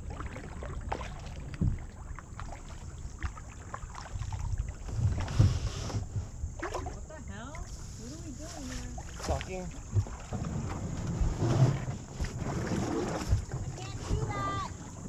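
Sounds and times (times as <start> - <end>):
paddle splashes and drips: 0.0 - 15.0.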